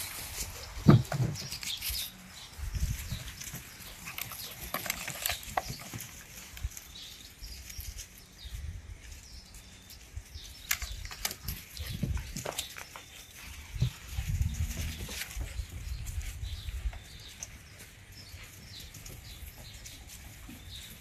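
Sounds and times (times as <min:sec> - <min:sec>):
puppies scuffling on dry leaves: 0:00.0 - 0:21.0.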